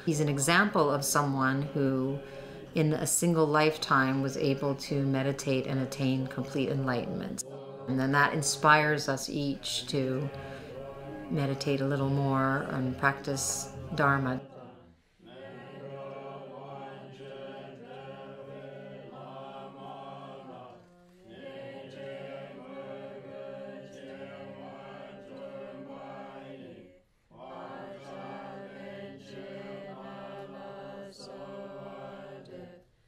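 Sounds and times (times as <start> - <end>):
group chanting in unison: 0.0 - 33.0.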